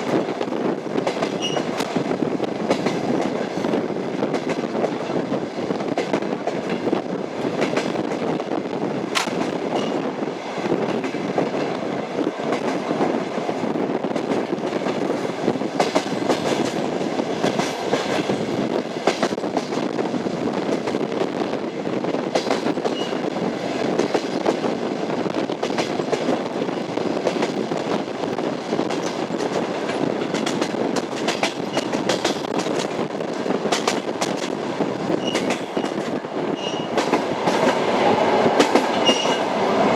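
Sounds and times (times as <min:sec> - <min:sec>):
train wheels clickety-clack on rails: 0:00.0 - 0:39.9.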